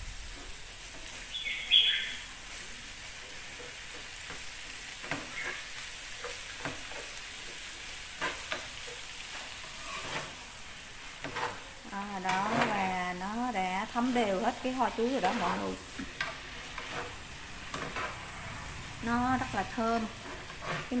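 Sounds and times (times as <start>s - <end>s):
food sizzling in a frying pan: 0.0s - 21.0s
chopsticks scraping a pan: 2.5s - 21.0s.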